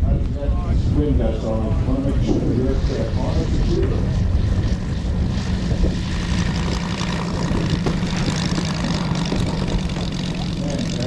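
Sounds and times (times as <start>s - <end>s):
model plane engine running: 0.2s - 11.0s.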